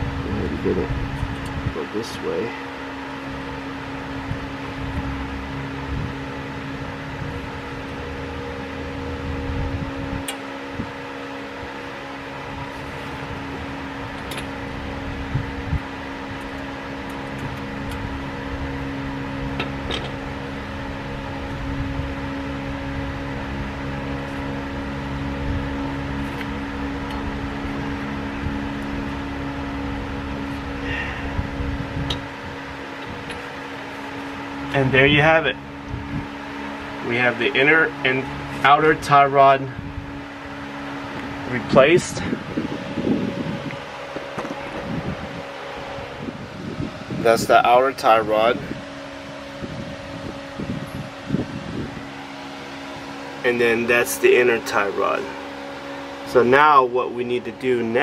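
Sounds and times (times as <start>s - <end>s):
mechanical hum with low rumble: 0.0s - 58.0s.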